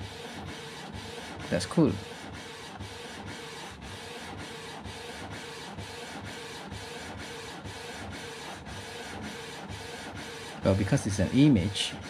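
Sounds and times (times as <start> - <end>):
inkjet printer printing: 0.0 - 12.0.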